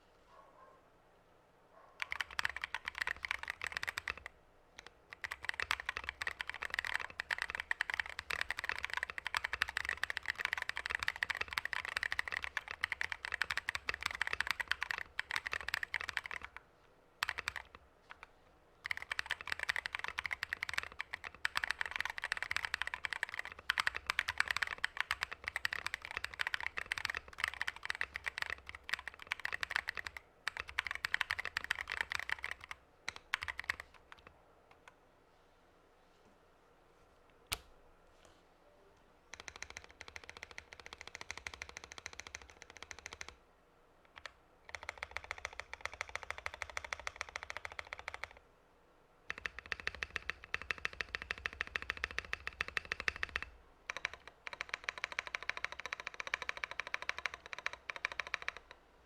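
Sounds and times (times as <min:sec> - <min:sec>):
mechanical keyboard clacks: 0:02.0 - 0:16.6, 0:17.2 - 0:34.9, 0:39.3 - 0:43.4, 0:44.1 - 0:48.4, 0:49.3 - 0:58.8.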